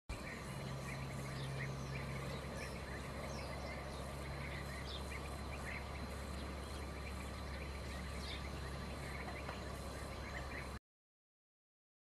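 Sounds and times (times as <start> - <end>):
steady low hum: 0.1 - 10.8.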